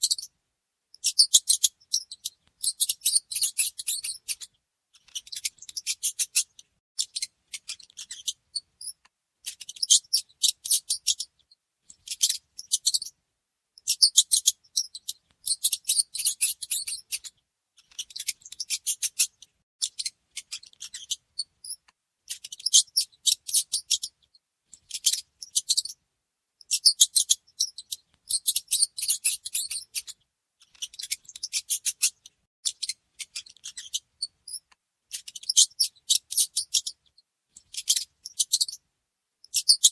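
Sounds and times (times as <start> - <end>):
mice squeaking: 0.0 - 0.3, 1.0 - 13.1, 13.8 - 26.0, 26.6 - 38.8, 39.4 - 39.9.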